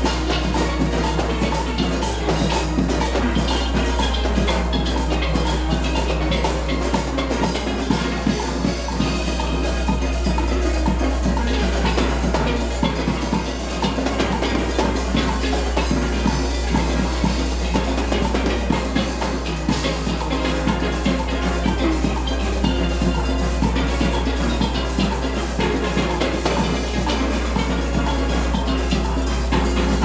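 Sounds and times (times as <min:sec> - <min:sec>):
drums: 0:00.0 - 0:30.0
steel pans playing calypso: 0:00.0 - 0:30.0.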